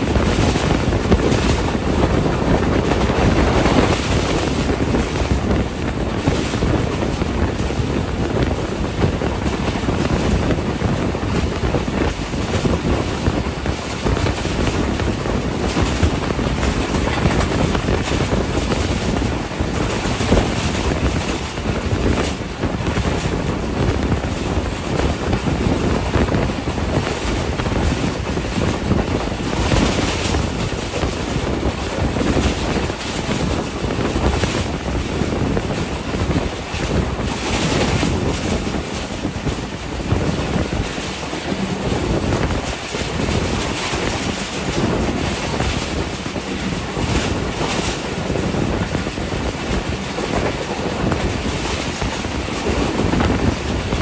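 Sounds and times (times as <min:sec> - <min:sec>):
train wheel and track noise: 0:00.0 - 0:54.0
wind buffeting microphone: 0:00.0 - 0:54.0.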